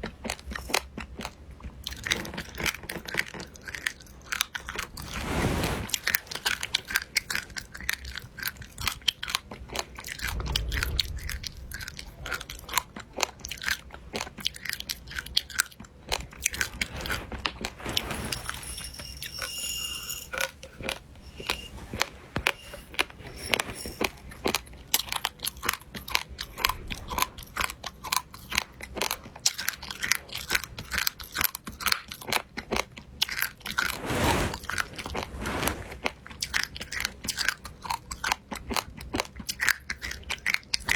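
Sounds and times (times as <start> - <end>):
chewing crunchy food: 0.0 - 5.2, 5.9 - 17.8, 24.0 - 35.3, 35.9 - 40.9.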